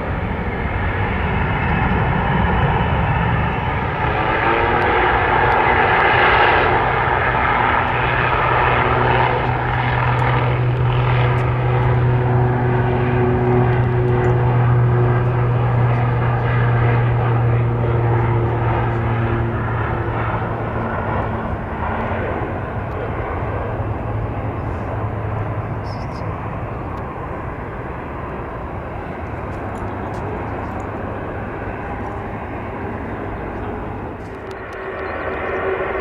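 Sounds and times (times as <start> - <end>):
airliner engines running: 0.0 - 36.0.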